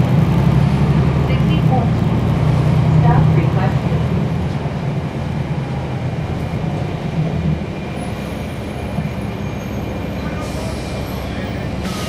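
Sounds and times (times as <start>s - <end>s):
bus diesel engine rumble: 0.0s - 12.0s
cabin and road noise: 0.0s - 12.0s.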